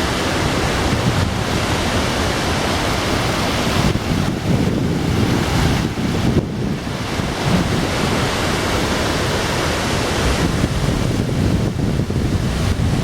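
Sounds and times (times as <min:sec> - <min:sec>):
rushing water roar: 0:00.0 - 0:13.0
wind buffeting microphone: 0:00.0 - 0:13.0.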